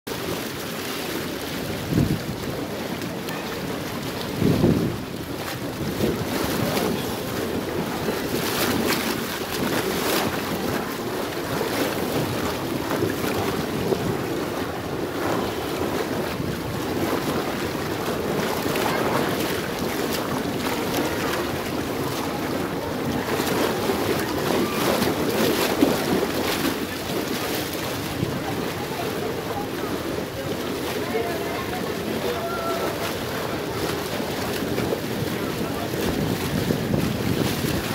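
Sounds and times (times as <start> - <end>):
pool water rushing and splashing: 0.1 - 37.9.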